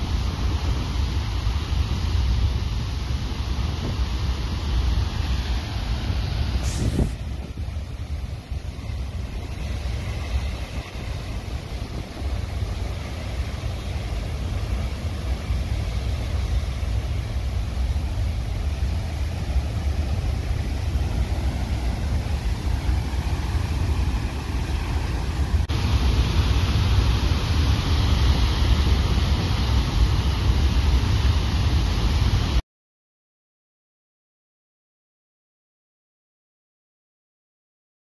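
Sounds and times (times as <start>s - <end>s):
water roaring from dam gates: 0.0s - 32.6s.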